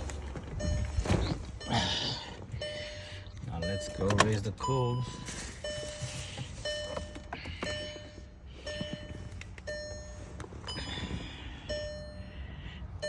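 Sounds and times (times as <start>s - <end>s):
car warning chime dinging: 0.0s - 13.0s.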